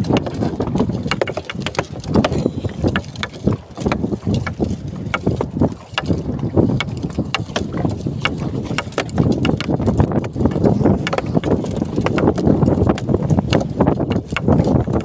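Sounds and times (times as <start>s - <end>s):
water rushing past boat: 0.0s - 15.0s
wind buffeting microphone: 0.0s - 15.0s.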